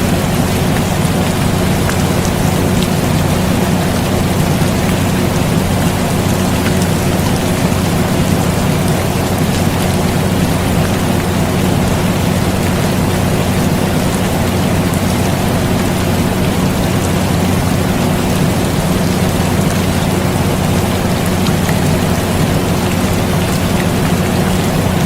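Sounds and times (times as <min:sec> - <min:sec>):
air conditioner hum: 0:00.0 - 0:25.0
rain falling steadily: 0:00.0 - 0:25.0.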